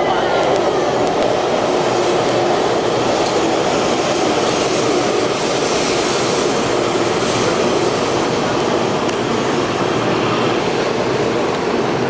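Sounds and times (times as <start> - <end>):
high speed train running: 0.0 - 12.0.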